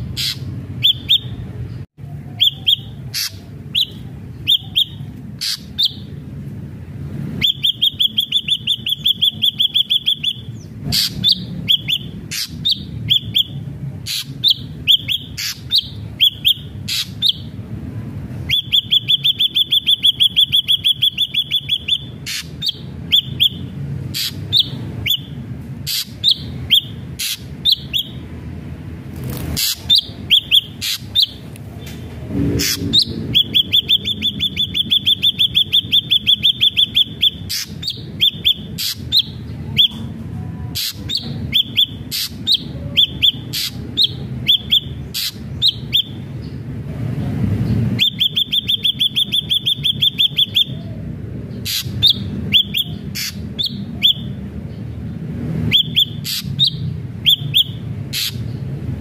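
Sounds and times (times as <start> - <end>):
bird singing fast trills: 0.0 - 6.3, 7.3 - 17.7, 18.4 - 28.4, 29.2 - 32.0, 32.6 - 46.8, 47.6 - 59.0.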